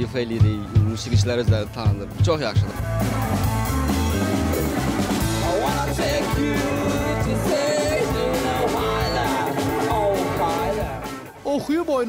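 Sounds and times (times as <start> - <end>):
rock music with singing: 0.0 - 11.6.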